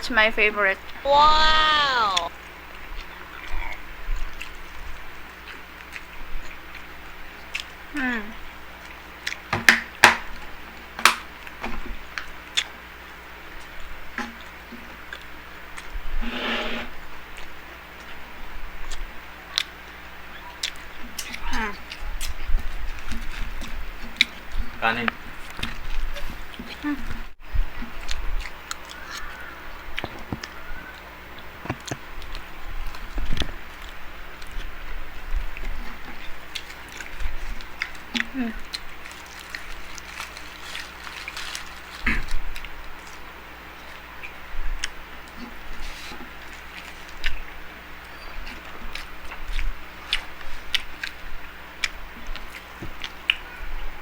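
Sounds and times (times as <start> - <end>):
chewing food: 2.1 - 9.5, 13.4 - 16.0, 17.3 - 54.0.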